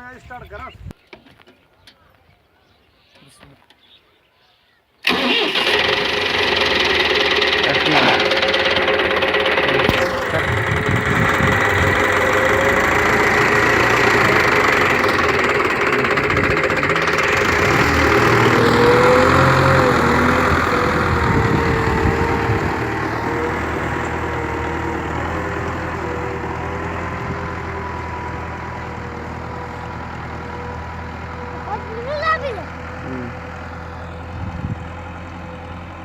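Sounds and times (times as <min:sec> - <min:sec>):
tractor engine running: 0:05.0 - 0:36.0.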